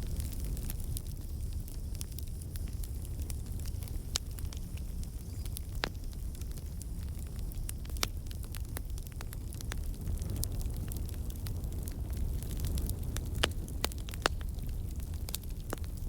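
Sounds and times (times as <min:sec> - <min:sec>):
low rumble of fire: 0:00.0 - 0:16.0.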